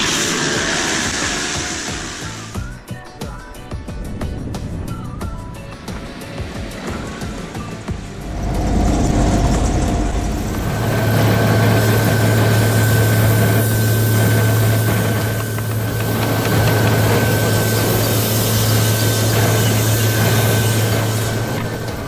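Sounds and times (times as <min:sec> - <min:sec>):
crane machinery low hum: 0:00.0 - 0:02.7, 0:05.6 - 0:22.0
thin high whine: 0:00.0 - 0:02.8, 0:06.2 - 0:22.0.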